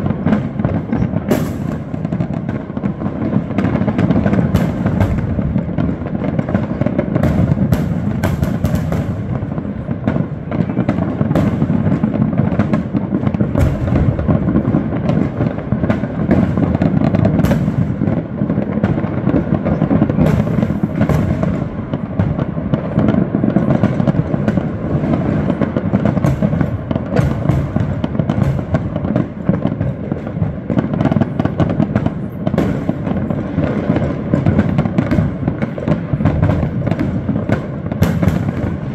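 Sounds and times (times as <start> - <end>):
fireworks crackling and popping: 0.0 - 38.9
sharp firework bangs: 0.0 - 38.9.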